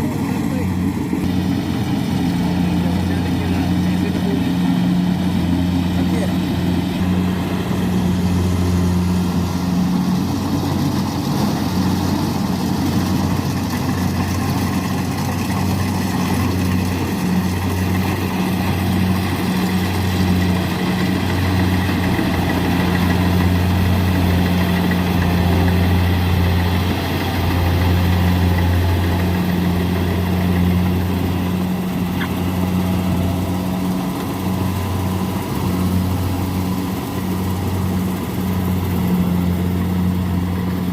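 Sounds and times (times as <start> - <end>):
combine harvester diesel engine humming: 0.0 - 40.9.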